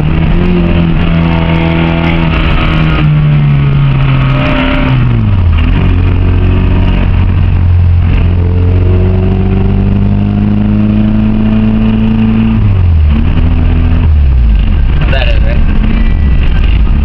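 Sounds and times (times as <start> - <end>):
car engine revving under load: 0.0 - 17.0.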